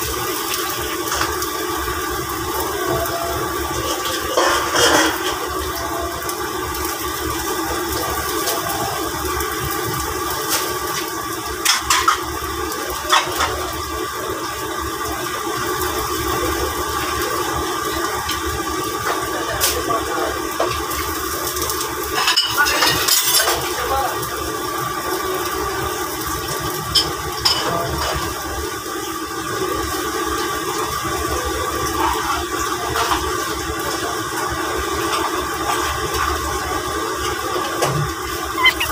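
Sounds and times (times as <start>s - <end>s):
wok cooking on gas burner: 0.0s - 38.9s.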